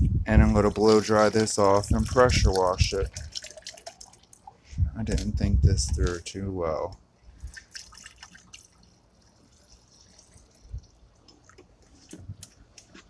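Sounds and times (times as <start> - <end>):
liquid dripping from plastic jug: 0.6 - 6.3, 7.4 - 13.0.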